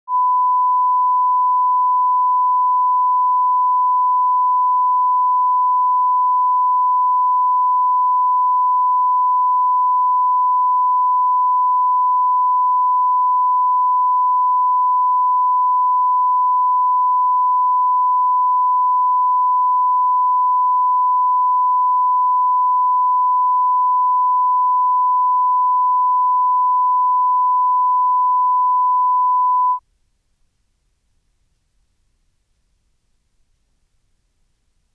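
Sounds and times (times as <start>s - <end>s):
sine test tone: 0.1s - 29.8s.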